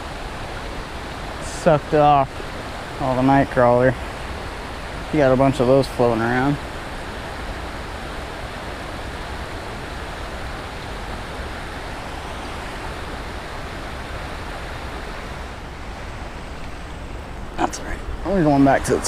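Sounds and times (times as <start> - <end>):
water rushing over waterfall: 0.0 - 19.0.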